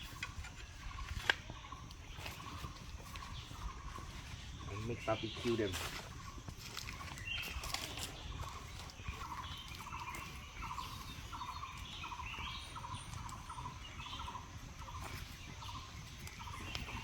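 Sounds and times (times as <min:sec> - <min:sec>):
higher bird chirps: 0:00.0 - 0:17.0.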